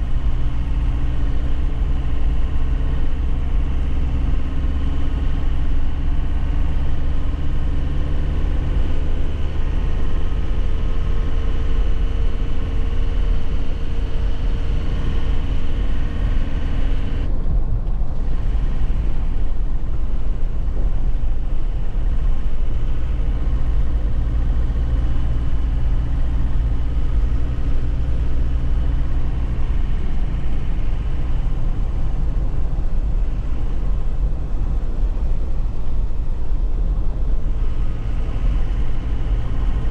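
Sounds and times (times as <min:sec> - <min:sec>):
diesel truck engine driving: 0:00.0 - 0:39.9.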